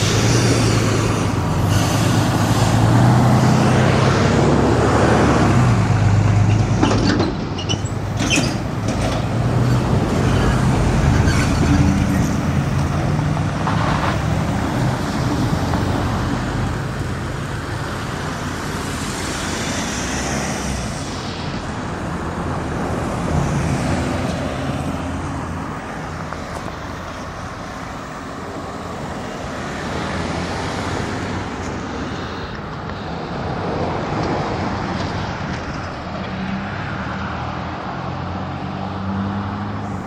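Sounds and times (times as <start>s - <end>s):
cars passing: 0.0s - 40.0s.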